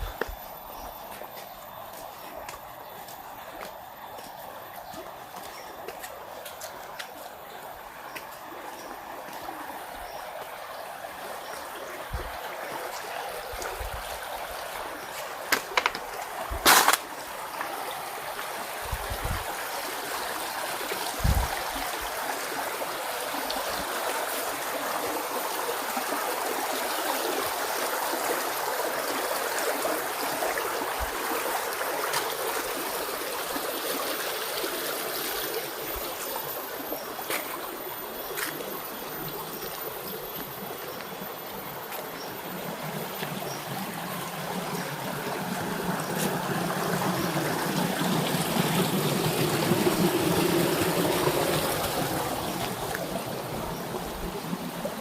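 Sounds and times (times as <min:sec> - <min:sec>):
rushing stream water: 0:00.0 - 0:55.0.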